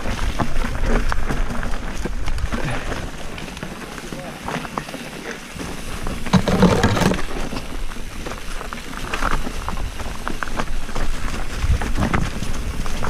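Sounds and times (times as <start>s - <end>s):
bike rattling and knocking: 0.0s - 13.0s
tyres over loose stones: 0.0s - 13.0s.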